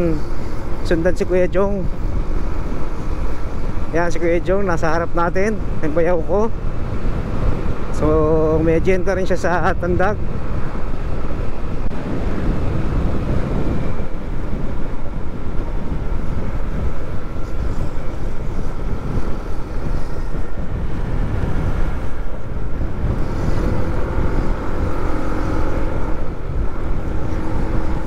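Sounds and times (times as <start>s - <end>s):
low hum: 0.0s - 28.0s
wind rushing over microphone: 0.0s - 28.0s.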